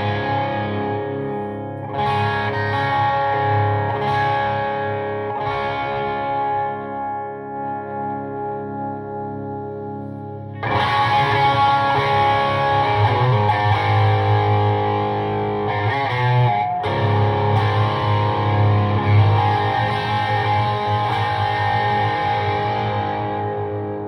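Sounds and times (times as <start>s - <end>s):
distorted electric guitar playing: 0.0s - 24.0s
ringing guitar chord: 0.0s - 24.0s.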